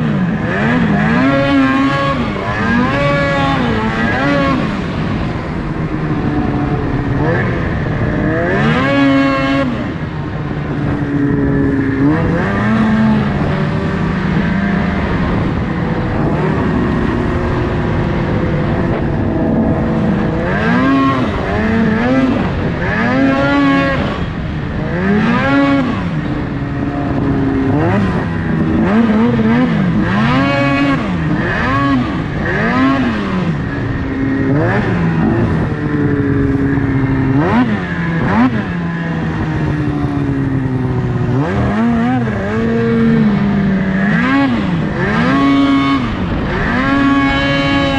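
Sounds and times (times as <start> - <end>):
snowmobile engine revving: 0.0 - 47.9.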